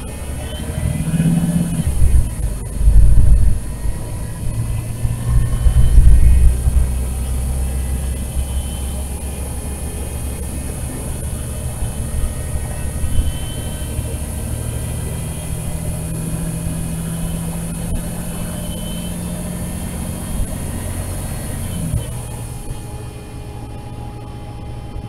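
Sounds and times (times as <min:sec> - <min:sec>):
bus engine rumble: 0:00.0 - 0:25.0
low hum: 0:00.0 - 0:25.0.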